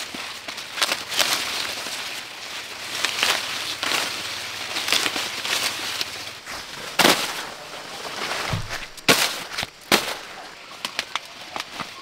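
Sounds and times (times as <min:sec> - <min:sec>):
corn ear snapping: 0:00.0 - 0:02.1, 0:02.9 - 0:12.0
dry corn leaves rustling: 0:00.0 - 0:12.0.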